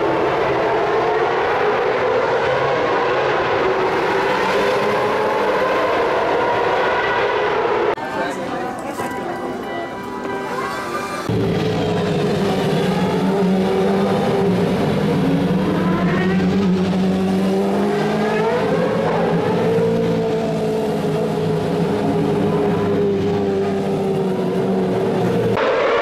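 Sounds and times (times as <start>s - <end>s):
racing car engines at low revs: 0.0s - 8.0s, 11.3s - 26.0s.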